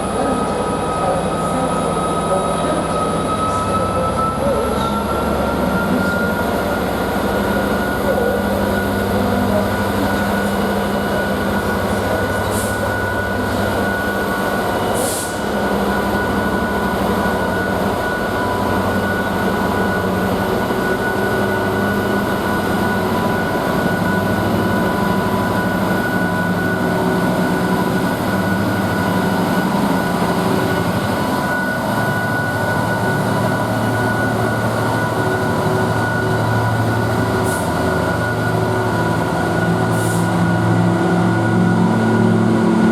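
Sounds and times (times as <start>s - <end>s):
diesel locomotive engine running: 0.0s - 42.9s
steady high tone: 0.0s - 42.9s.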